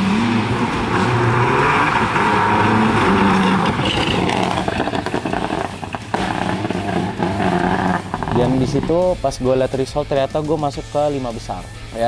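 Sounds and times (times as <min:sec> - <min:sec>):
rally car engine revving: 0:00.0 - 0:09.8
road noise: 0:00.0 - 0:12.0.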